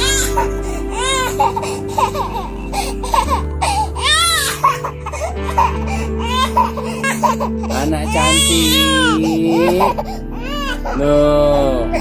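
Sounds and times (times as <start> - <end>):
baby crying: 0.0 - 12.0
background music: 0.0 - 12.0.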